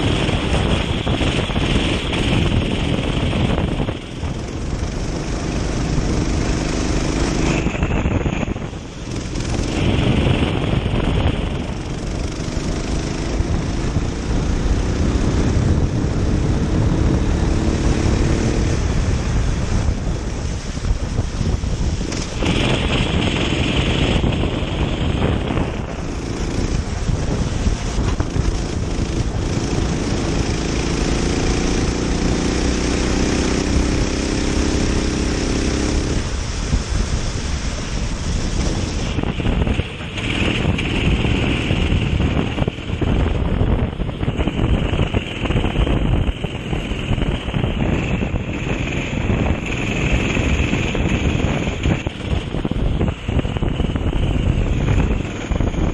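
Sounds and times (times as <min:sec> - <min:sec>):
kart engine racing: 0:00.0 - 0:55.9
wind buffeting microphone: 0:00.0 - 0:55.9.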